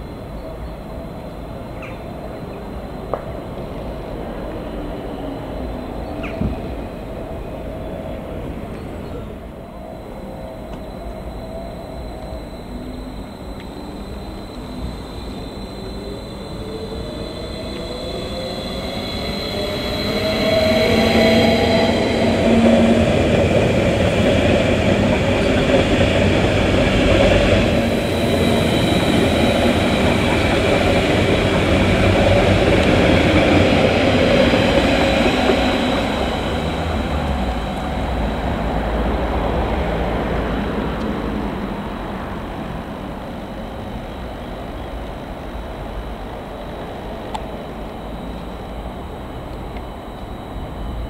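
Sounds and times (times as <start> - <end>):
train passing on tracks: 0.0 - 51.0.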